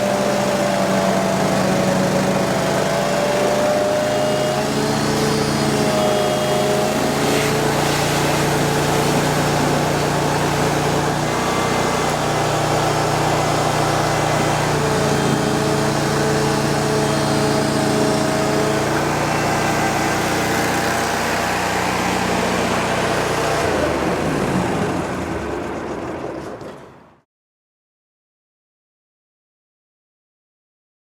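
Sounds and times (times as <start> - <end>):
vacuum excavator droning: 0.0 - 27.1.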